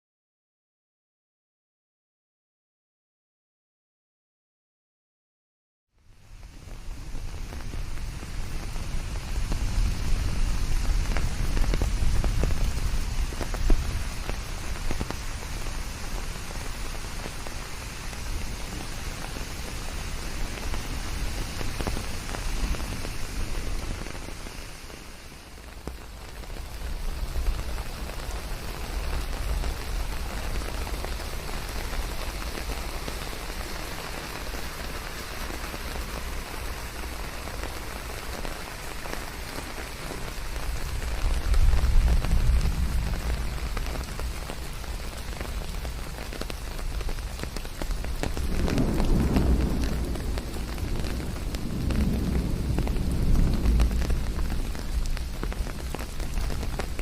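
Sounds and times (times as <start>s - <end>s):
steady rain falling: 5.9s - 57.0s
raindrops striking close by: 6.0s - 57.0s.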